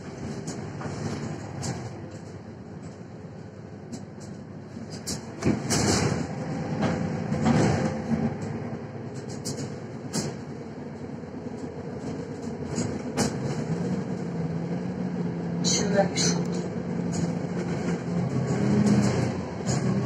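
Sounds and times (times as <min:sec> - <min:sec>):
rattles and knocks from bus body: 0:00.0 - 0:14.8, 0:16.2 - 0:20.0
bus engine and road rumble: 0:00.0 - 0:20.0.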